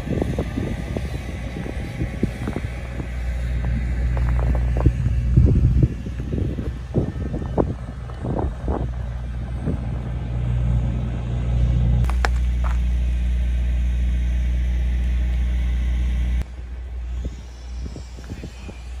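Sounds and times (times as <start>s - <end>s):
heavy machinery engine humming: 0.0s - 19.0s.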